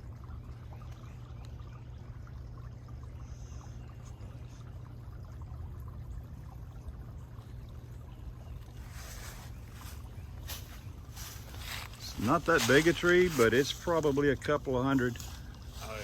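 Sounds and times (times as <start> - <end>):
brook trickling and babbling: 0.0 - 16.0.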